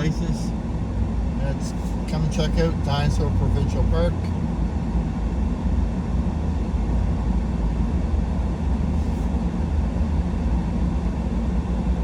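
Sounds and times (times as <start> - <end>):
truck engine and tyre road noise: 0.0 - 12.0.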